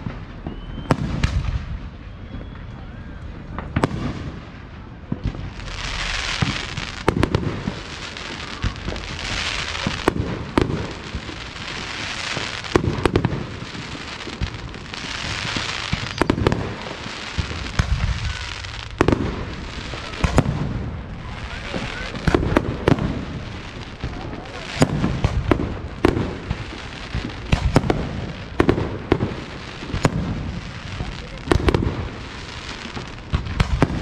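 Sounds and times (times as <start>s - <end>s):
fireworks bangs and booms: 0.0s - 34.0s
fireworks hiss: 3.5s - 34.0s.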